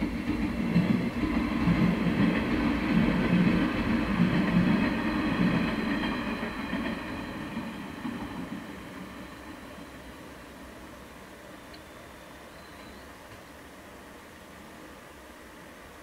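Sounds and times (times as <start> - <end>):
train wheels rumbling on rails: 0.0 - 13.7.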